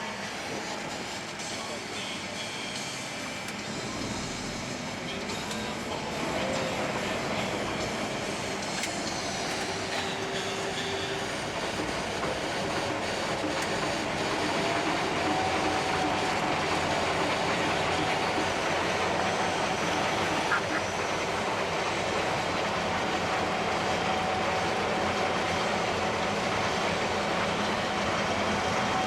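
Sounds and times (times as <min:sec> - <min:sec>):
combine harvester running: 0:00.0 - 0:29.0
machinery whine: 0:00.0 - 0:29.0.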